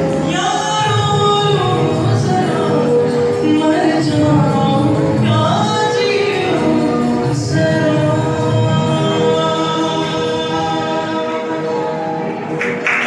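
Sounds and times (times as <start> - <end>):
man singing into microphone: 0.0 - 12.2
musical accompaniment: 0.0 - 13.0.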